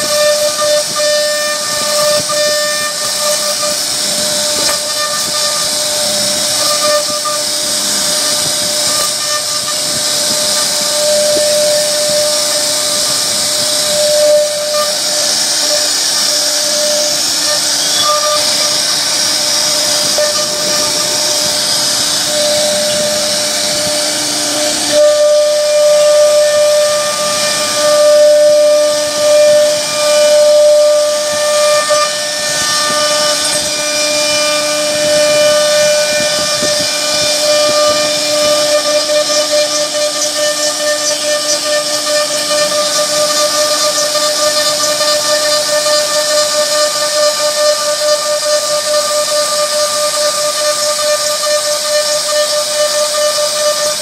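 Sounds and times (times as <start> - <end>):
cnc router spindle whining: 0.0 - 54.0
hiss of wood being cut: 0.0 - 54.0.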